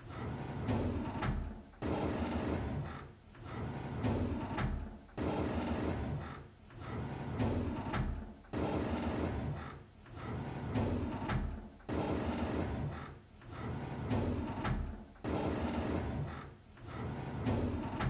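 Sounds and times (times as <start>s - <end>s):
drawer sliding open: 0.1s - 4.9s, 5.6s - 18.0s.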